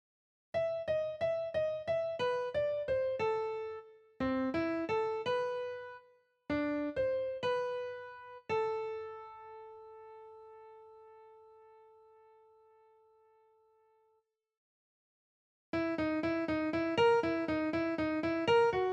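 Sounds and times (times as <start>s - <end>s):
piano melody: 0.6s - 13.5s, 15.8s - 18.9s.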